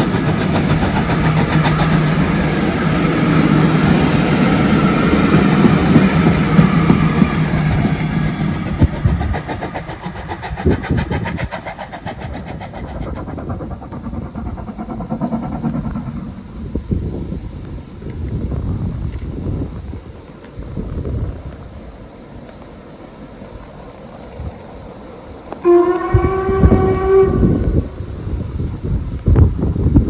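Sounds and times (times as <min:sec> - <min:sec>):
steam train passing: 0:00.0 - 0:30.0.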